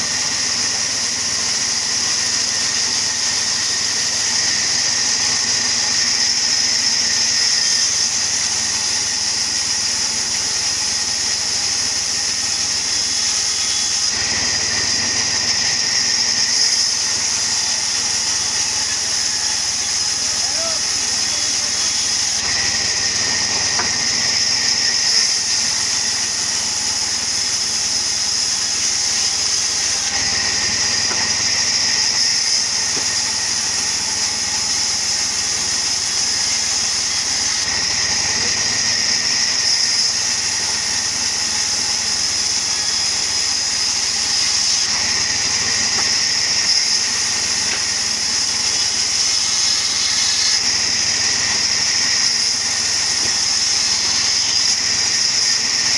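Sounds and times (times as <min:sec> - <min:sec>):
sawmill machine high whine: 0:00.0 - 0:55.9.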